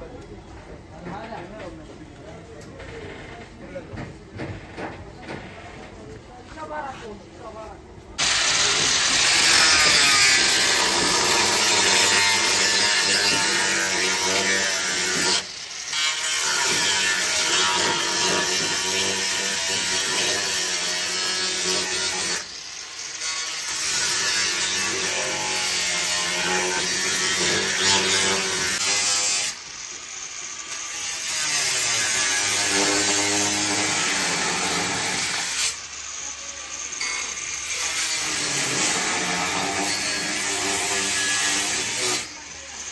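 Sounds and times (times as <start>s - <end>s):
power tool on metal: 8.2s - 42.9s.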